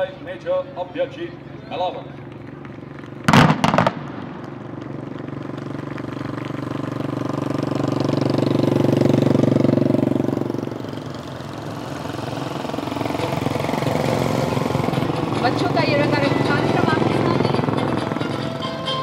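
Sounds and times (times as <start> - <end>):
motorcycles riding past: 0.0 - 19.0.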